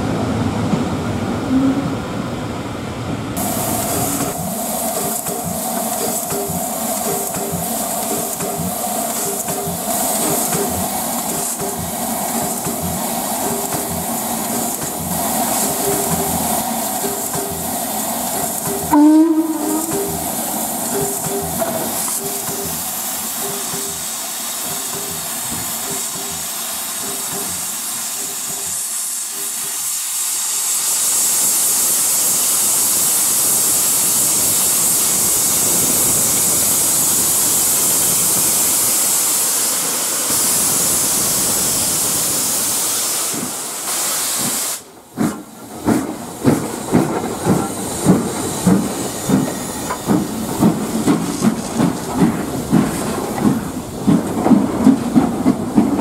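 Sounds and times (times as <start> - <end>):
steam locomotive chuffing past: 3.2 - 56.0
steam locomotive hissing steam: 3.4 - 56.0.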